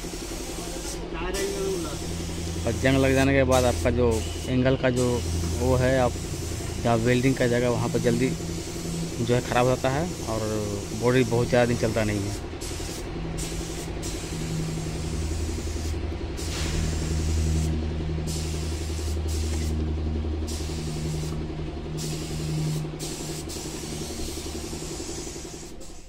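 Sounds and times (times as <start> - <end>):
low machine hum: 0.0 - 26.0
spray gun hissing: 0.0 - 26.0.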